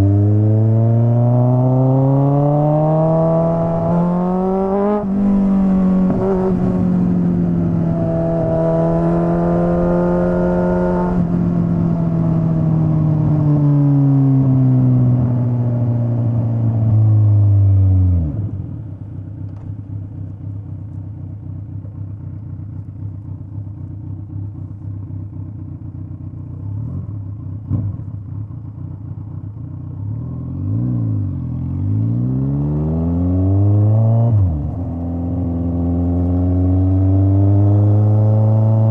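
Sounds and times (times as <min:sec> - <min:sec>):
motorcycle engine slowing and idling: 0:00.0 - 0:38.9.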